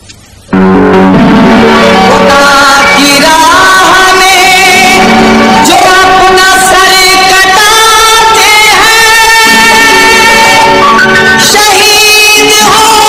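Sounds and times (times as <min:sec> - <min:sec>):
devotional song with sliding notes: 0:00.5 - 0:13.0.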